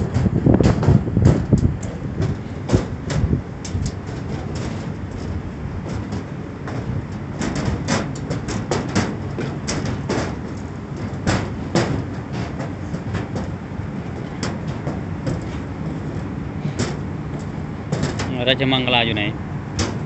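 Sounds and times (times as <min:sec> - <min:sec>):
wind buffeting microphone: 0:00.0 - 0:20.0
irregular clicks and knocks: 0:00.1 - 0:18.9, 0:19.7 - 0:20.0.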